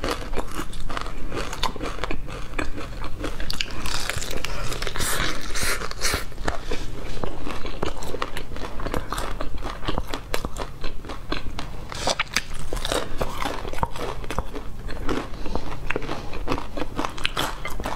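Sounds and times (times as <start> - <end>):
chewing crunchy fried food: 0.0 - 17.9.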